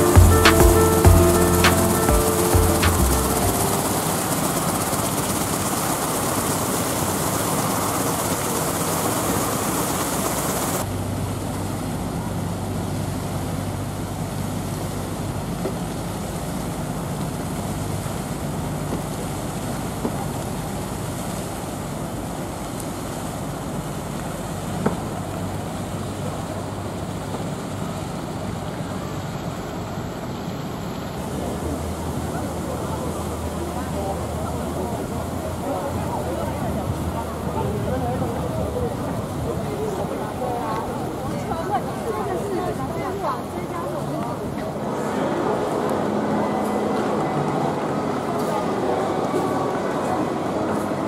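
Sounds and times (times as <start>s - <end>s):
water rushing over fountain: 0.0s - 51.0s.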